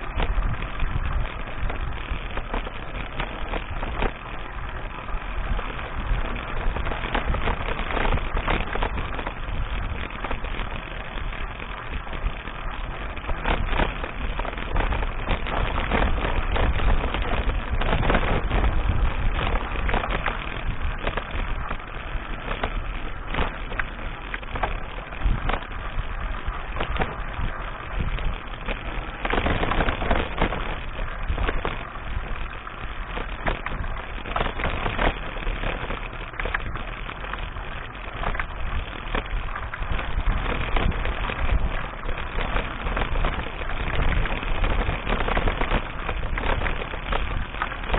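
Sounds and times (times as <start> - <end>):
bike knocks and rattles: 0.0 - 47.9
wind rumbling on microphone: 0.0 - 47.9.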